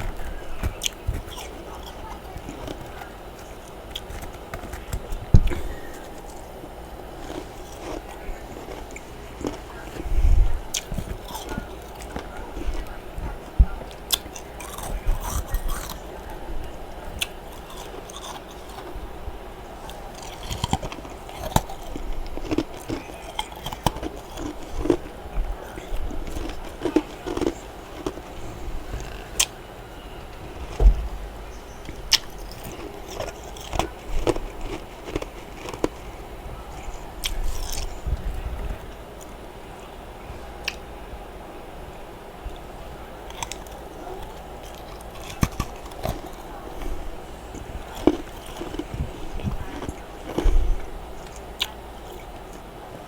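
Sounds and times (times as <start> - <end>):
person crunching frost: 0.0 - 29.6, 30.2 - 39.4, 42.6 - 52.2
low background noise: 0.0 - 53.0.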